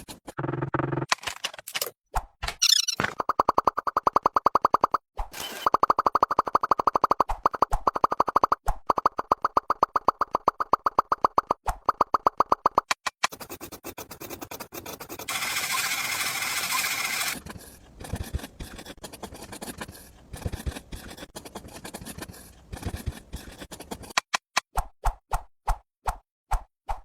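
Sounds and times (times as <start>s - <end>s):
clicking and scraping: 0.0s - 15.4s, 17.2s - 24.7s.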